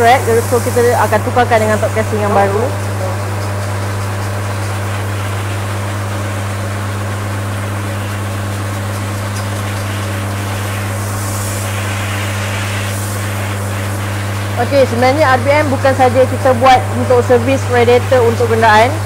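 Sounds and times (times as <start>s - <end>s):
pressure washer spray hissing: 0.0s - 19.0s
pump motor humming: 0.0s - 19.0s.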